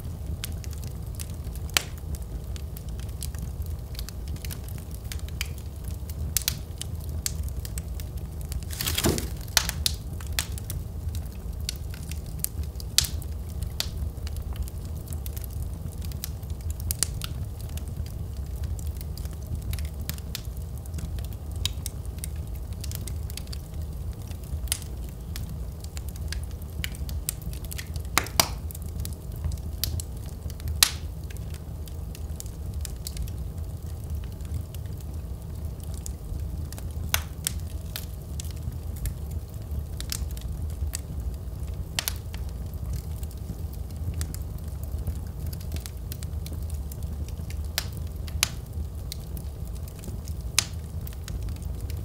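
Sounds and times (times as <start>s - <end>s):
fire burning low rumble: 0.0s - 52.0s
fire crackling sharp pops: 0.1s - 52.0s.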